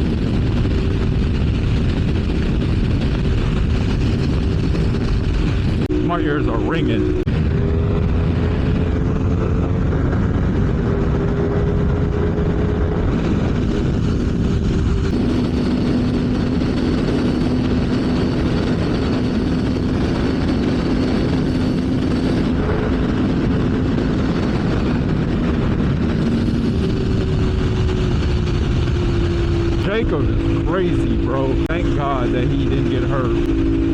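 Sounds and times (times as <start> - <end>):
motorcycle engine at speed: 0.0 - 33.9
wind rush: 0.0 - 33.9.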